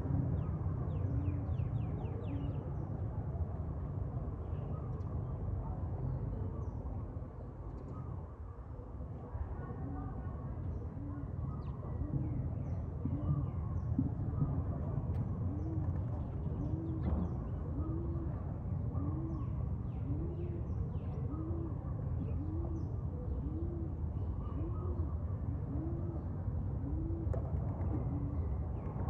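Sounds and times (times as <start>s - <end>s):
low arched bird coo: 0.0s - 29.0s.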